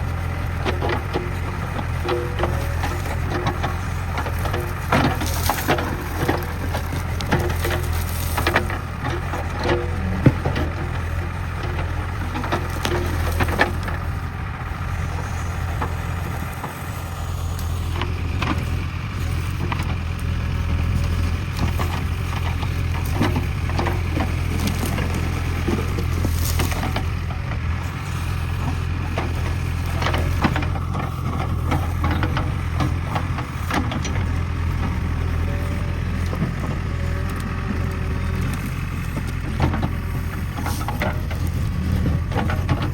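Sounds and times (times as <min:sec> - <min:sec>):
diesel engine running under load: 0:00.0 - 0:42.9
branches cracking and snapping: 0:00.2 - 0:42.9.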